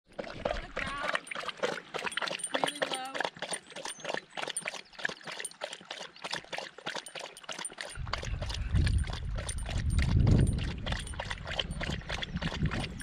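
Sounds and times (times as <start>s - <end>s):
dog lapping water: 0.1s - 13.0s
stream trickling: 0.1s - 13.0s.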